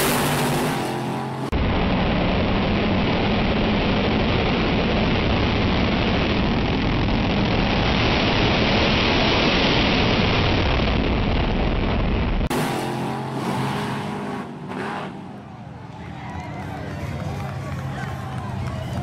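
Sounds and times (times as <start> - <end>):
pickup truck engine at full throttle: 0.0 - 15.9.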